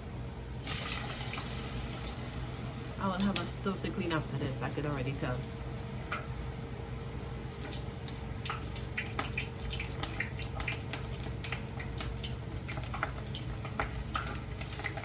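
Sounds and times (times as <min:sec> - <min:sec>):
chicken wings frying in oil: 0:00.6 - 0:15.0.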